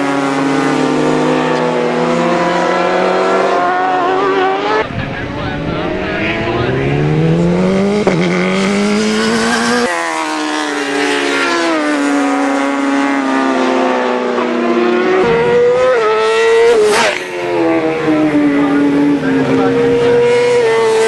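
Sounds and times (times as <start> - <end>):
motorcycle engines at high revs: 0.0 - 21.0
motorcycle passing with whoosh: 0.0 - 21.0.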